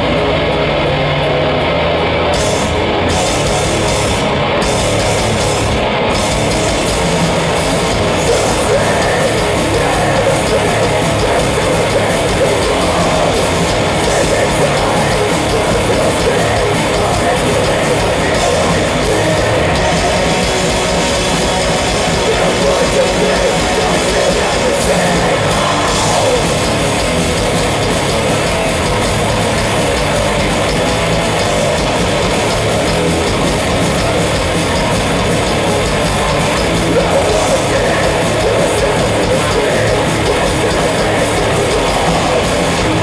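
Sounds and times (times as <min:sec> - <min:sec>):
heavy metal band playing: 0:00.0 - 0:43.0.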